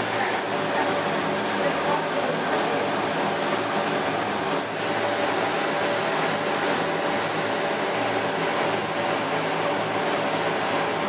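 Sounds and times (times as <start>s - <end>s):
aquarium equipment whirring hum: 0.0s - 11.0s.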